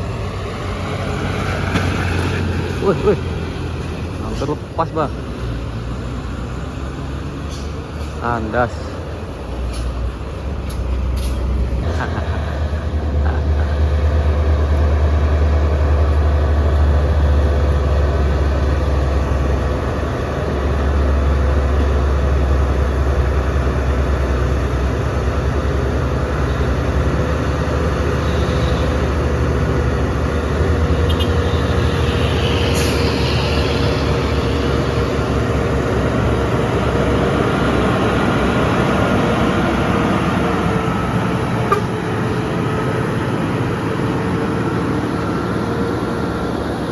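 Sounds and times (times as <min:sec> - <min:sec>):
truck engine labouring: 0:00.0 - 0:46.9.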